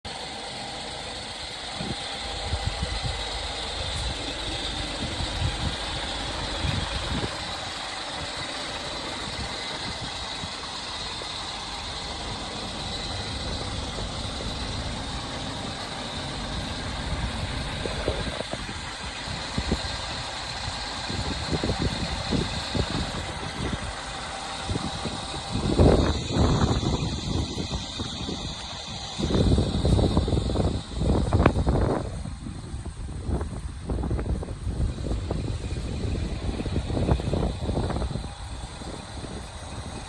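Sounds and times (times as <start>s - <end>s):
truck diesel engine idling: 0.0s - 40.0s.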